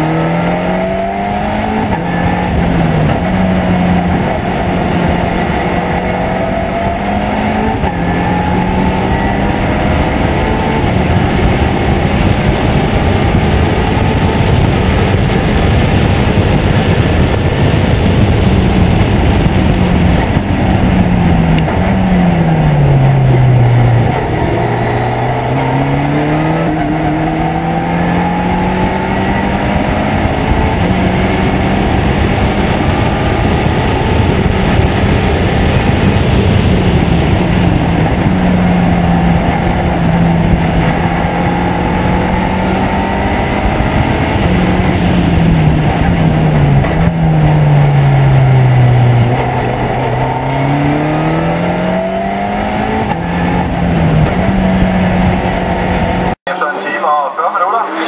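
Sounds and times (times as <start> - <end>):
wind rush: 0.0 - 56.4
race car engine: 0.0 - 58.0.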